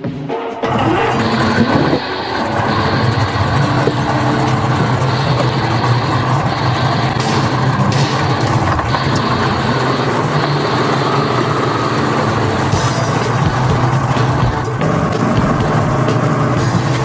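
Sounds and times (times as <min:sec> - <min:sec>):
outboard motor droning: 0:00.6 - 0:17.0.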